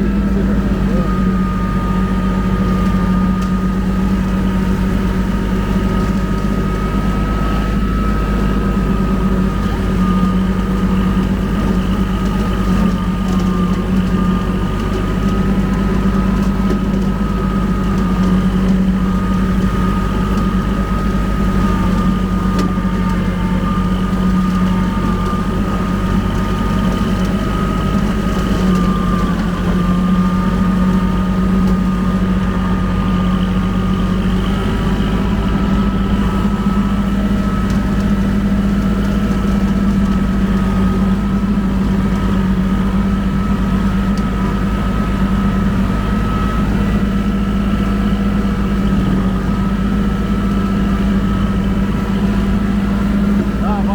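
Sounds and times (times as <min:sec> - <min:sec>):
mower high whine: 0:00.0 - 0:53.9
tractor diesel engine running: 0:00.0 - 0:53.9.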